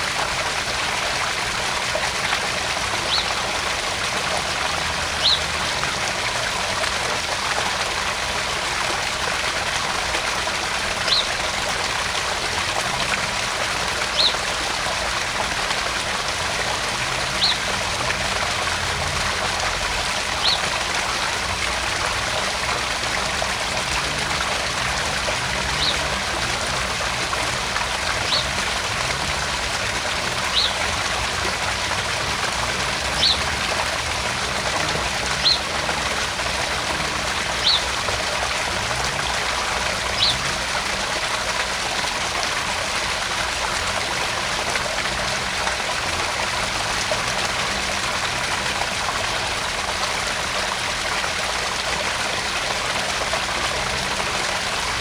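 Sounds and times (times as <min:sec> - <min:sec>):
water trickling into pond: 0:00.0 - 0:55.0.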